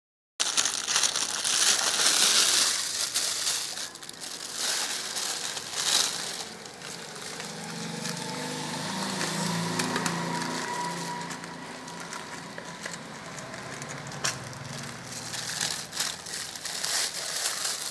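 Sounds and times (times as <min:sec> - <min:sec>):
plastic bag crinkling: 0:00.4 - 0:17.9.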